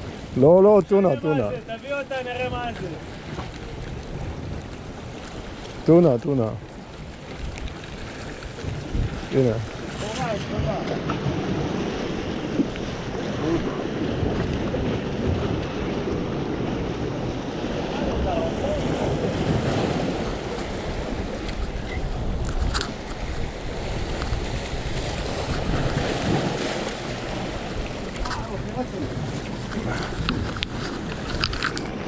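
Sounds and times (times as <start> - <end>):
waves breaking on rocks: 0.0 - 32.0
wind buffeting microphone: 0.0 - 32.0.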